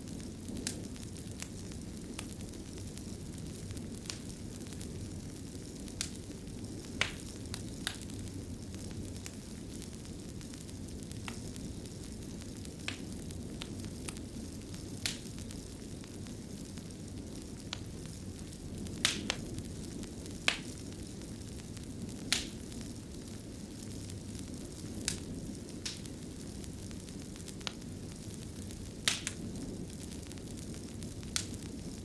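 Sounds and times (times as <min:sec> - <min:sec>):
fire crackling and popping: 0:00.0 - 0:32.0
fire rumbling: 0:00.0 - 0:32.0.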